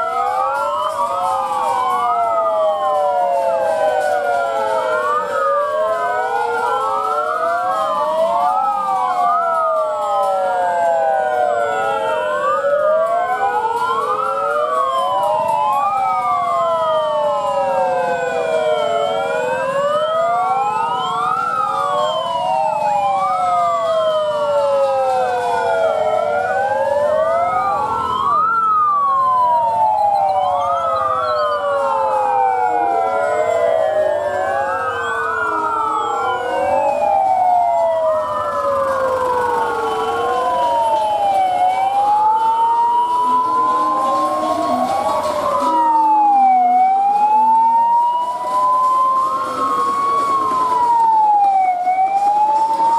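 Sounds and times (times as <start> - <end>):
police sirens wailing: 0.0 - 52.9.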